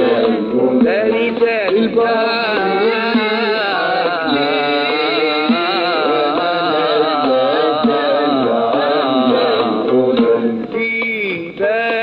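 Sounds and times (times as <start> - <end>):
frame drum keeping time: 0.0 - 12.0
man singing: 0.0 - 12.0.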